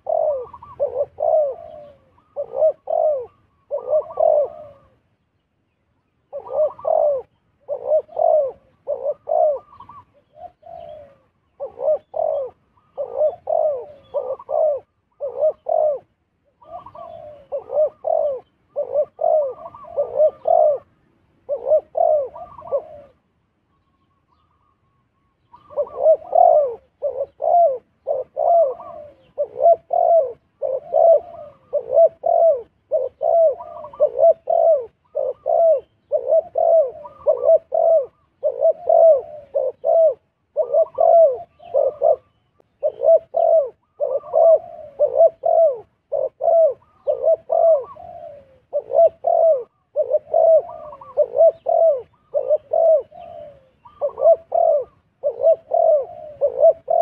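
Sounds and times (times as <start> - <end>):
dove cooing: 0.0 - 5.1, 6.2 - 57.0.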